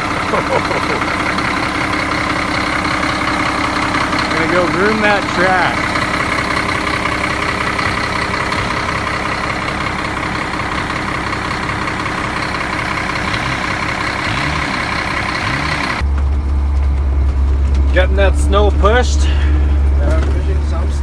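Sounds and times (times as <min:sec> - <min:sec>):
deep steady drone: 0:00.0 - 0:21.0
engine idling: 0:00.0 - 0:21.0.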